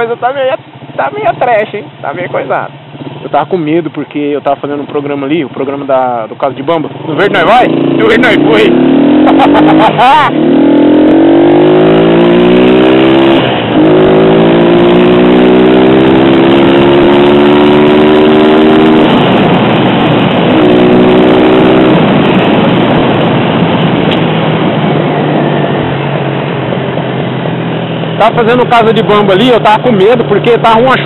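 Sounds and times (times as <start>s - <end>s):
motorcycle engine accelerating: 0.0s - 31.0s
wind and wet road noise: 0.0s - 31.0s.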